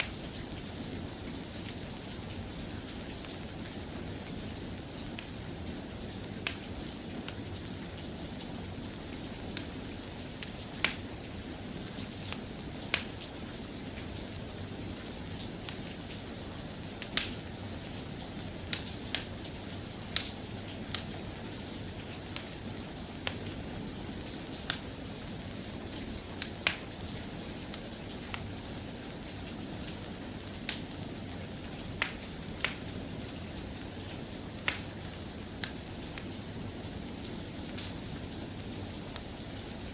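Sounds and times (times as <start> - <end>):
soft rain: 0.0 - 39.9.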